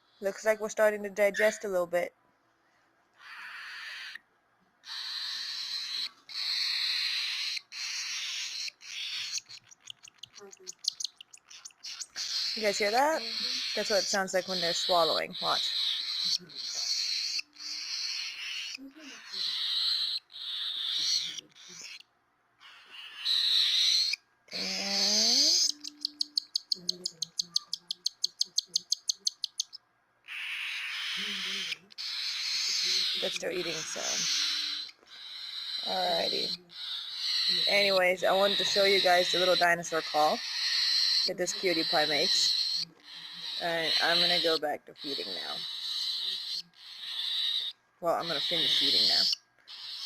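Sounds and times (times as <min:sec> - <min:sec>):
cockatiel chick begging calls: 0:03.2 - 0:04.2, 0:04.8 - 0:50.0.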